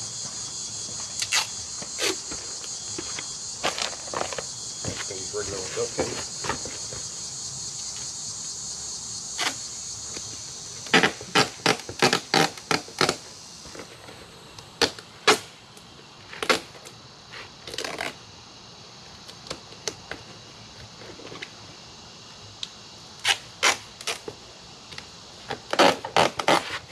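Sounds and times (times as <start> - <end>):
crickets chirping: 0.0 - 26.9.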